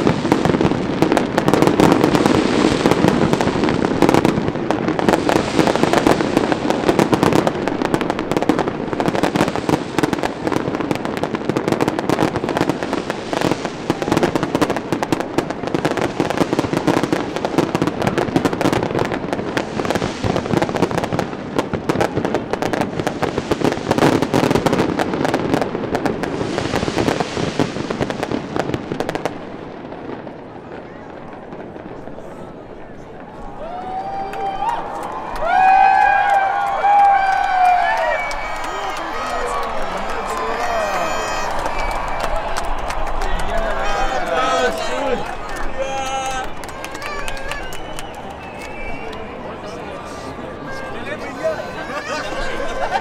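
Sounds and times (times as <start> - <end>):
fireworks crackling bangs: 0.0 - 53.0.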